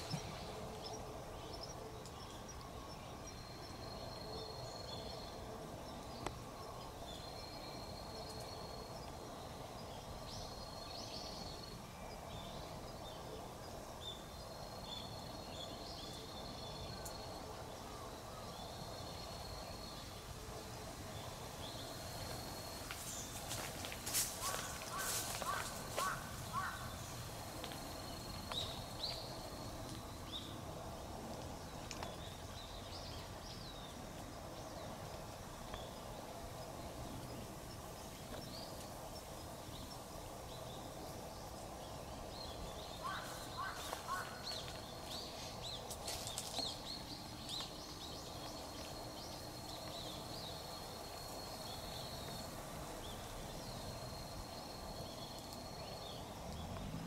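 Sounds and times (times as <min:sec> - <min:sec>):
birds chirping: 0:00.0 - 0:30.8, 0:31.5 - 0:57.0.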